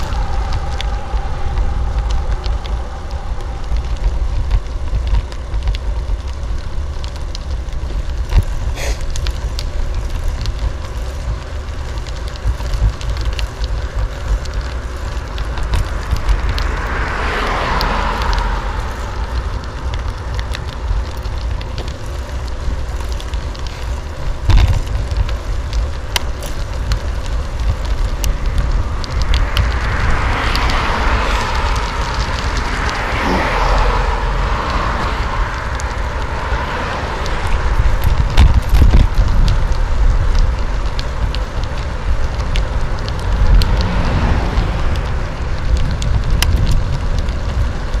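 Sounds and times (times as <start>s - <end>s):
car passing: 0.0s - 24.4s, 25.0s - 48.0s
bicycle frame rattling: 0.0s - 48.0s
tyres hissing on asphalt: 0.0s - 48.0s
wind rumbling on microphone: 0.0s - 48.0s.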